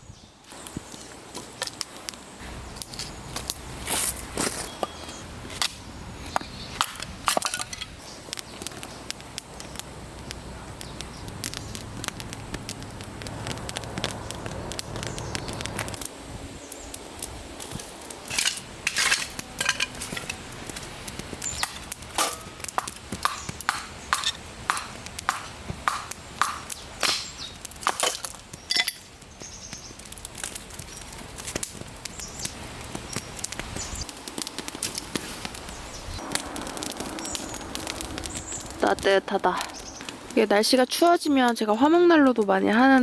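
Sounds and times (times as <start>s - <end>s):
dry firewood cracking: 0.4s - 43.0s.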